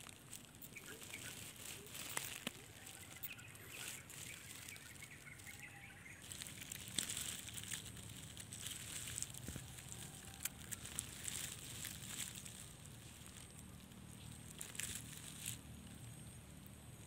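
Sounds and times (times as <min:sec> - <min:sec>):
small clicks and rustles: 0:00.0 - 0:17.0
steady outdoor hiss: 0:00.0 - 0:17.0.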